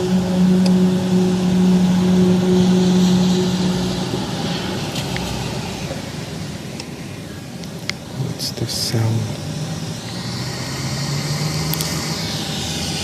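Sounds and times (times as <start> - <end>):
low droning hum: 0.0 - 13.0
rumbling noise: 0.0 - 13.0.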